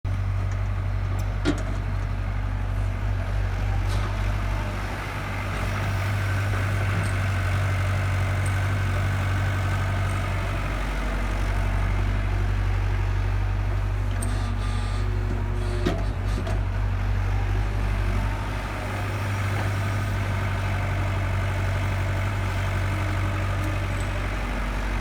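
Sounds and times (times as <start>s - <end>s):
excavator diesel engine running: 0.1s - 25.0s.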